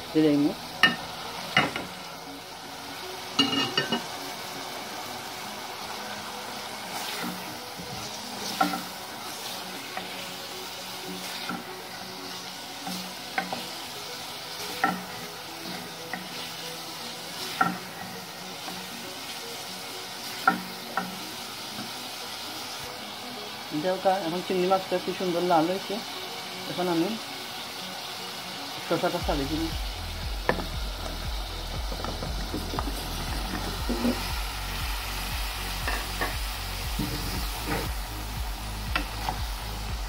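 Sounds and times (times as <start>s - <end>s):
food sizzling in a pan: 0.0s - 40.0s.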